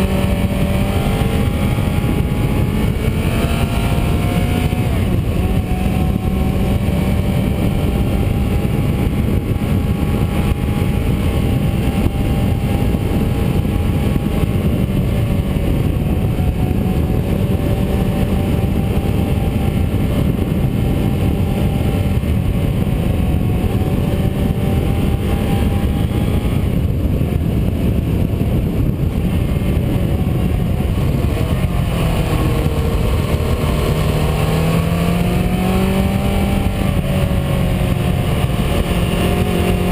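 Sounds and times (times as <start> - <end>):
car engine running: 0.0 - 39.9
road and wind noise: 0.0 - 39.9.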